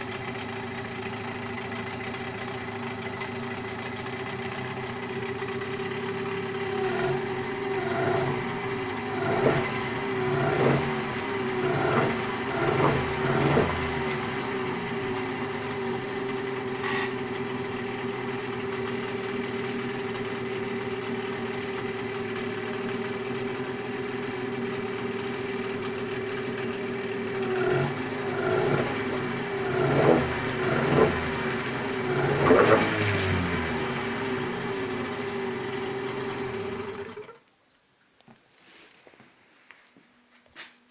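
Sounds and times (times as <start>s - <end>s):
small petrol engine idling and revving: 0.0s - 37.4s.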